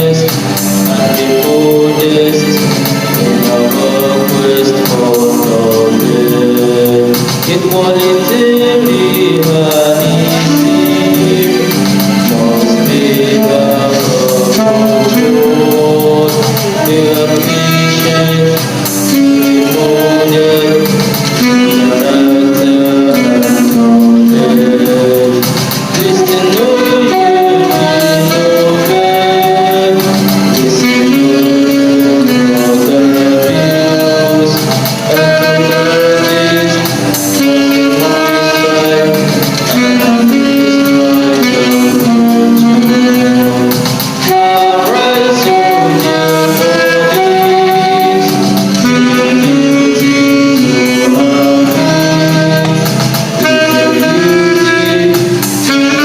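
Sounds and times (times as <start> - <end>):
anthem with instrumental accompaniment: 0.0 - 56.0.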